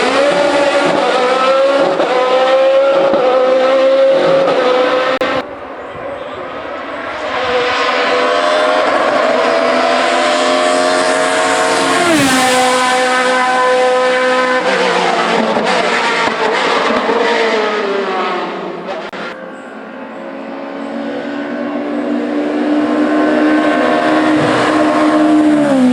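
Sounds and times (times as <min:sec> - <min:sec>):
race car engine at full throttle: 0:00.0 - 0:25.9.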